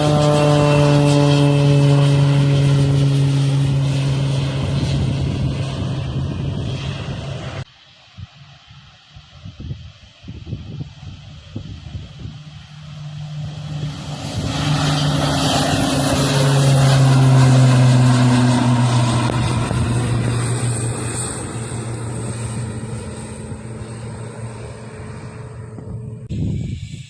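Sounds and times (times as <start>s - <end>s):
propeller airplane flying past: 0.0s - 27.0s.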